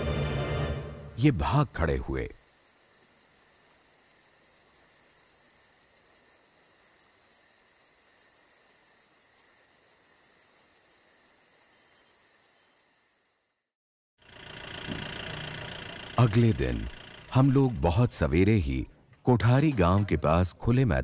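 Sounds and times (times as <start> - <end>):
night insects chirring: 0.0 - 18.0.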